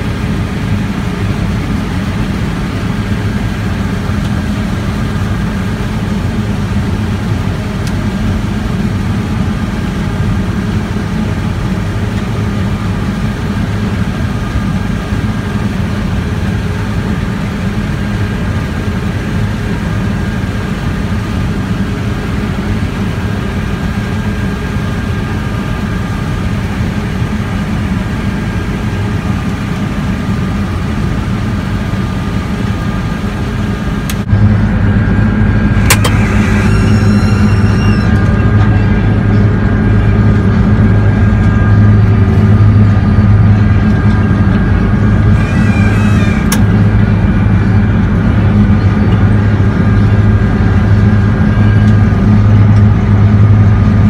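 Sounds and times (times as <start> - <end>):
combine harvester drone: 0.0 - 54.0
faint steady whine: 0.0 - 54.0.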